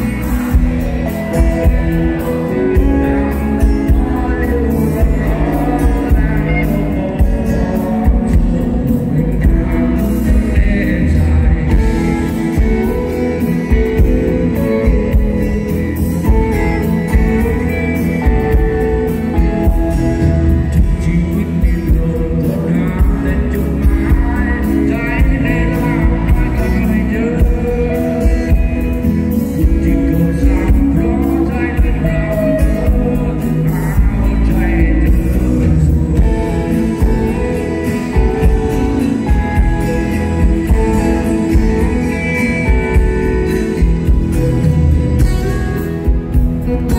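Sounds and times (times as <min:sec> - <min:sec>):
live rock band: 0:00.0 - 0:46.9
man singing: 0:00.0 - 0:46.9.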